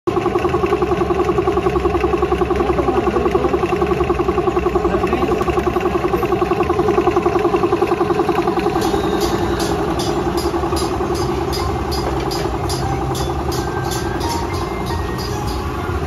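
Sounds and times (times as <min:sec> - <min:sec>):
air compressor running: 0:00.1 - 0:16.0.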